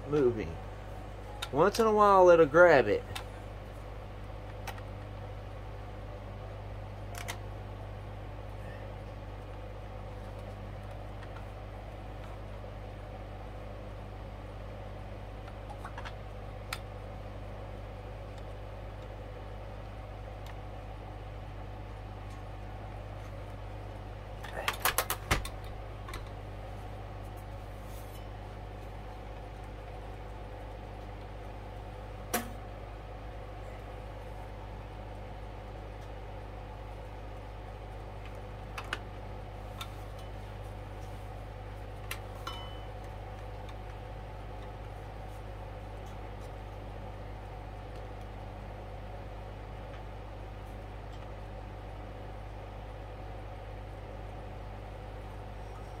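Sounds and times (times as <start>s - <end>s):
record player motor hum: 0.0s - 56.0s.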